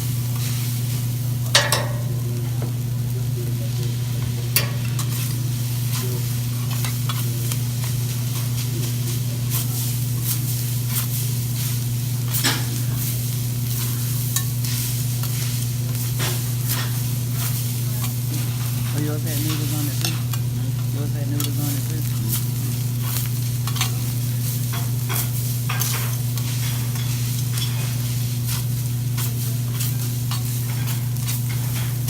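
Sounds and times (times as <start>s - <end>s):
food sizzling on griddle: 0.0s - 32.0s.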